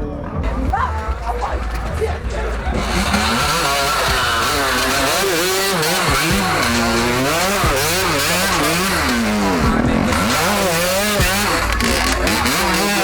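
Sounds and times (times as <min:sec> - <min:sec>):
off-road vehicle engines revving: 0:00.0 - 0:13.0.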